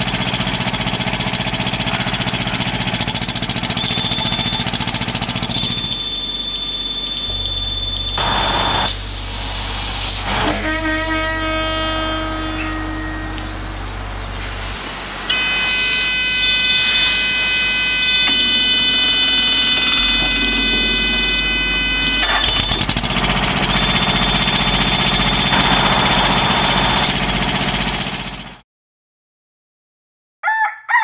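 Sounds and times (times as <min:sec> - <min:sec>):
engine starting and running: 0:00.0 - 0:28.6
loud buzzing alarm tone: 0:02.2 - 0:28.5
steady high whine: 0:03.8 - 0:28.6.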